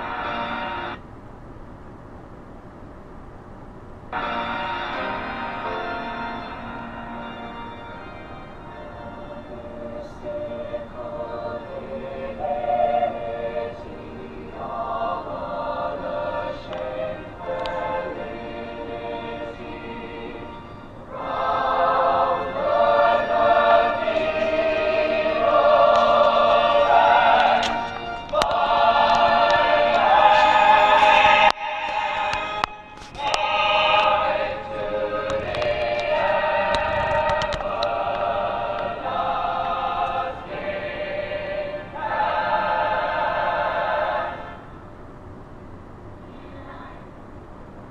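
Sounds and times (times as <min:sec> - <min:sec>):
stage musical music: 0:00.0 - 0:01.0, 0:04.2 - 0:44.8
choir singing: 0:04.2 - 0:44.9.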